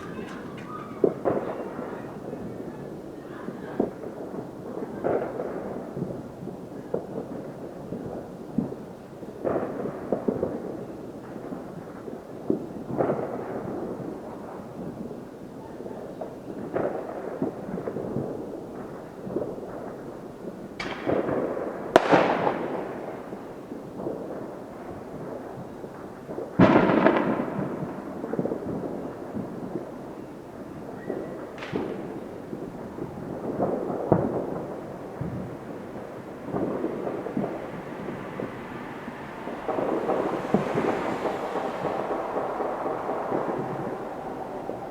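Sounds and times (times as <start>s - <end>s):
loud firework bangs echoing: 0.0s - 15.3s, 16.2s - 44.9s
distant firework booms and pops: 0.0s - 44.9s.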